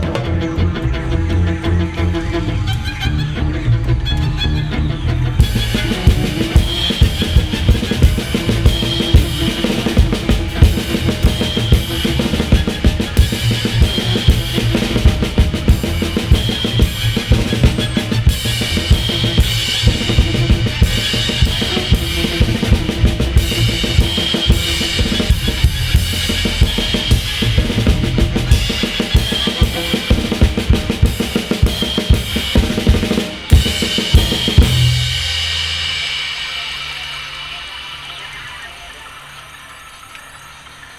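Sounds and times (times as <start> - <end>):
bass line: 0.0 - 36.2
drum kit beat: 5.4 - 38.4.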